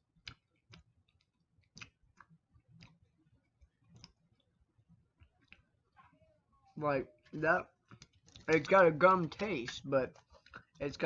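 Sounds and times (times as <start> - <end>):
wet mouth clicks chewing candy: 0.0 - 5.8, 7.6 - 10.8.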